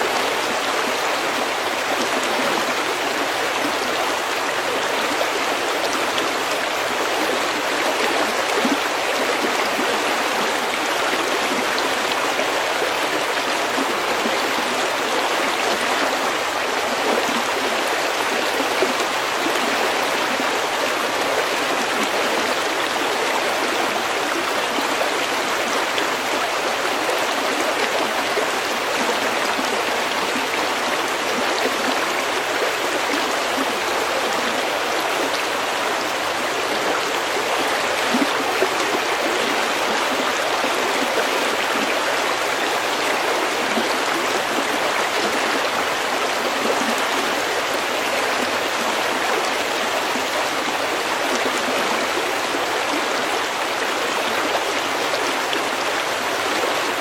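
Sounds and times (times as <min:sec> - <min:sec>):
stream flowing over pebbles: 0:00.0 - 0:57.0.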